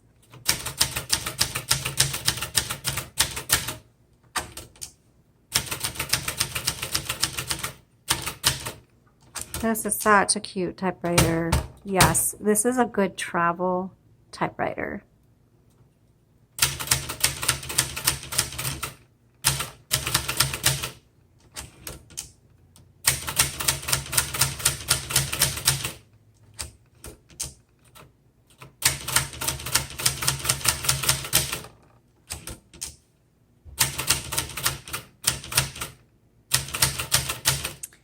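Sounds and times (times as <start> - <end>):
manual typewriter typing: 0.2 - 9.8, 11.0 - 12.2, 16.6 - 22.3, 23.0 - 33.0, 33.8 - 37.8.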